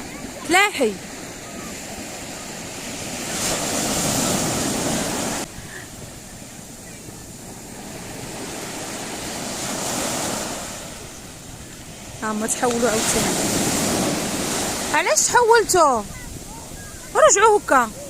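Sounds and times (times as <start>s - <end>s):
surf breaking on shore: 0.0s - 18.0s
wind buffeting microphone: 0.0s - 18.0s.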